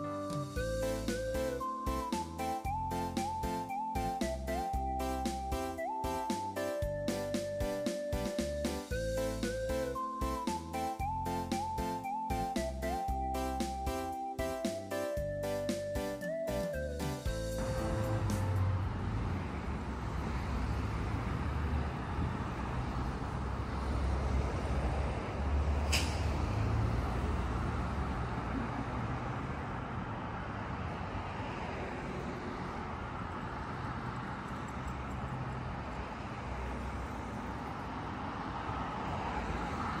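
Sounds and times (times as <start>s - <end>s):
cars passing close by: 0.0s - 40.0s.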